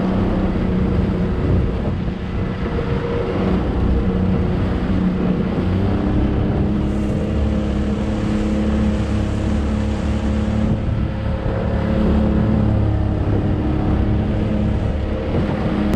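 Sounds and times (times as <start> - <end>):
motorboat engine humming: 0.0 - 15.9
water rushing: 0.0 - 15.9
wind: 0.0 - 15.9.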